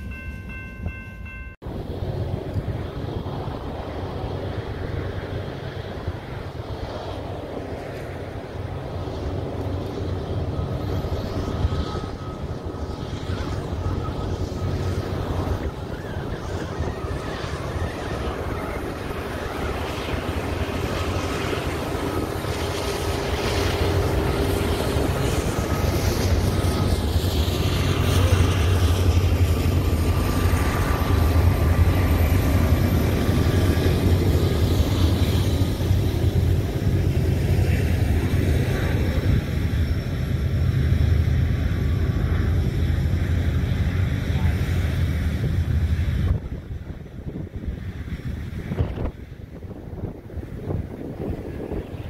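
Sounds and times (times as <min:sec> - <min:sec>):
diesel locomotive engine drone: 0:00.0 - 0:52.0
freight cars rolling past: 0:01.4 - 0:48.6.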